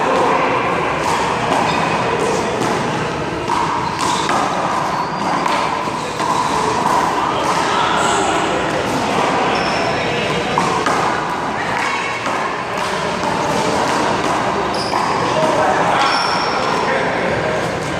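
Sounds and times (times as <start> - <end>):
hubbub of voices: 0.0 - 17.9.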